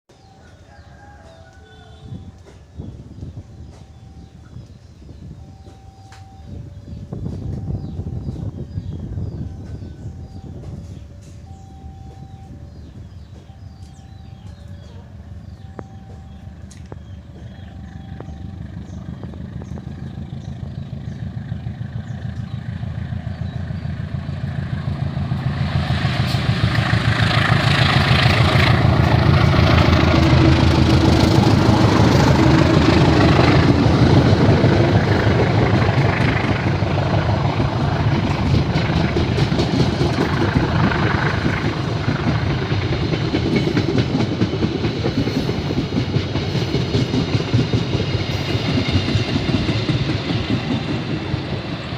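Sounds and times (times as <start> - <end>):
train wheels clattering on rails: 7.2 - 51.9.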